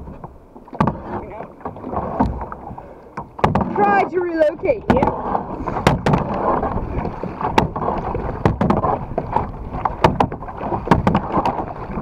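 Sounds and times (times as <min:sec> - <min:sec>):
paddle dipping and splashing: 0:00.0 - 0:12.0.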